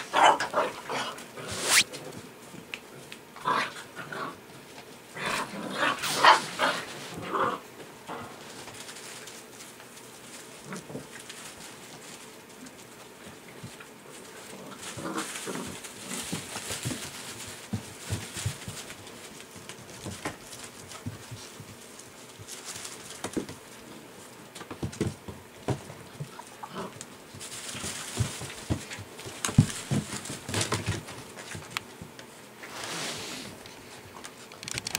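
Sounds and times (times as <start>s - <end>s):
puppies rustling in wood shavings: 0.0s - 34.6s.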